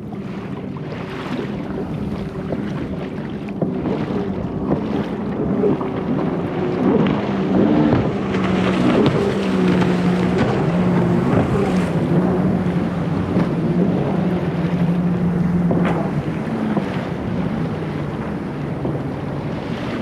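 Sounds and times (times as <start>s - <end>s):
small boat engine running: 0.0s - 20.0s
water splashing: 0.0s - 20.0s
wind on microphone: 0.0s - 20.0s.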